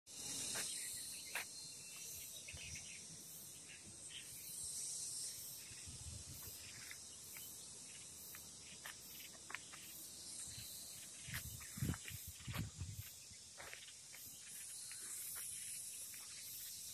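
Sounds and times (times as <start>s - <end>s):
insects chirring: 0.1s - 16.9s.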